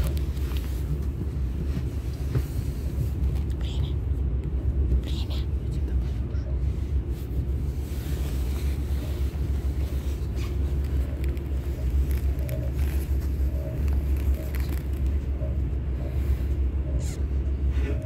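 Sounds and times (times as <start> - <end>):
train rumbling on board: 0.0 - 18.0.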